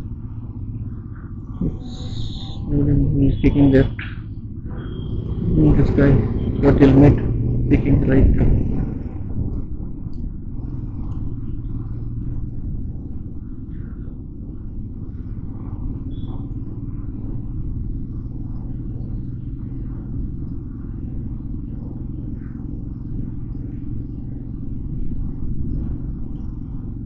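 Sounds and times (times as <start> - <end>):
faint traffic noise: 0.0 - 27.0
motorcycle engine rumble: 0.0 - 27.0.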